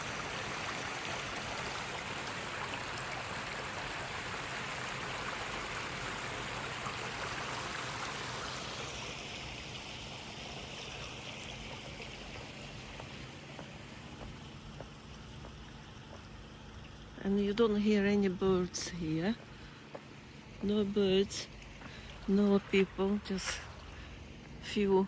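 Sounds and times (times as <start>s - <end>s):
water splashing and running: 0.0s - 17.2s, 19.4s - 24.2s.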